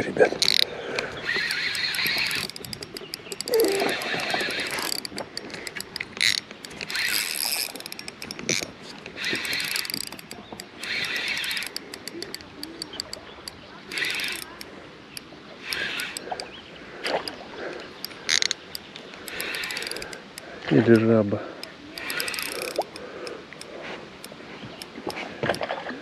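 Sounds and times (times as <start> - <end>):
fishing reel cranking: 0.4 - 16.5, 17.1 - 25.0.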